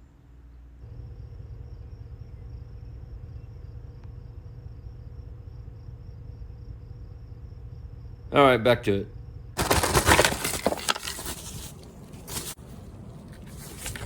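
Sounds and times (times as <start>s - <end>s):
continuous low rumble: 0.0s - 14.0s
crickets chirping: 0.0s - 14.0s.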